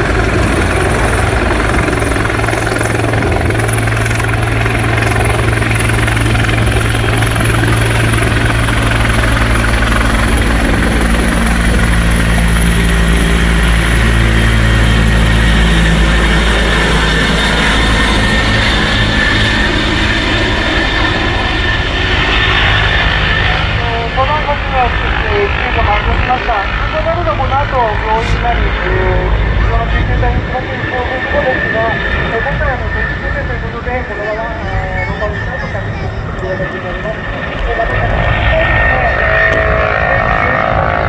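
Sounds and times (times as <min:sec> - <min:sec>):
helicopter rotor rumble: 0:00.0 - 0:41.0
helicopter turbine whine: 0:00.0 - 0:41.0.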